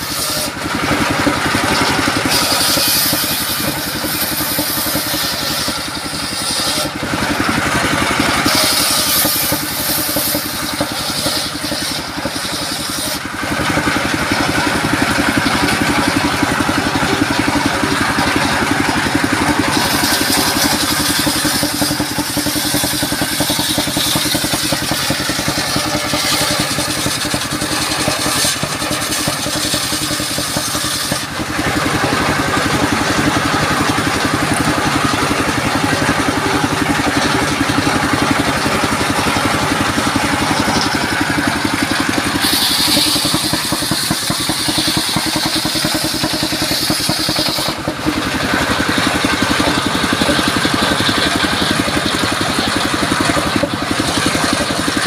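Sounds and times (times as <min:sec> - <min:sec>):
circular saw cutting log: 0:00.0 - 0:55.0
diesel engine droning: 0:00.0 - 0:55.0.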